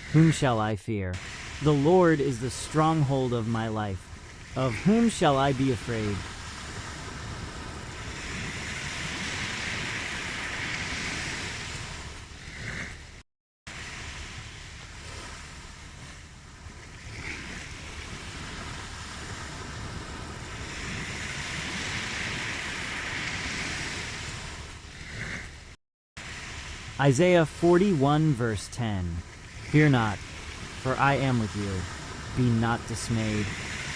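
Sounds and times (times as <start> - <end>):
ocean surf washing onto shore: 0.0 - 33.9.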